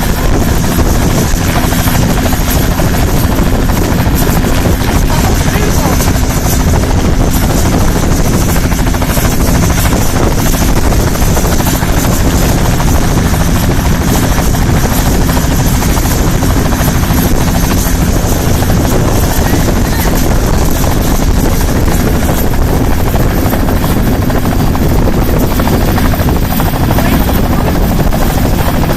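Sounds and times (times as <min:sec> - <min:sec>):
helicopter running: 0:00.0 - 0:28.9.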